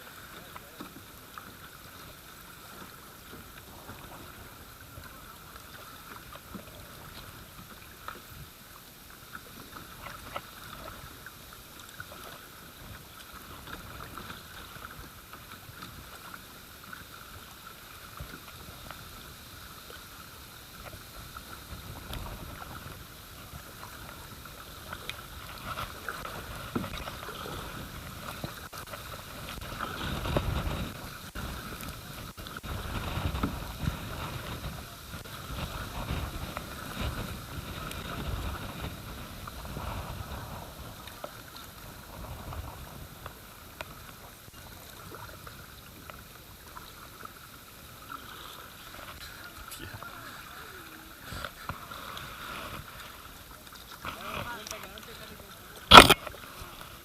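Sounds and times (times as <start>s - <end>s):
hull and paddle splashes: 0.0s - 57.0s
rushing river water: 0.0s - 57.0s.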